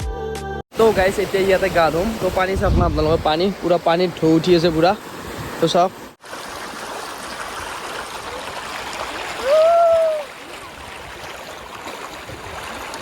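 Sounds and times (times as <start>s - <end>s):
river water rushing: 0.7s - 13.0s.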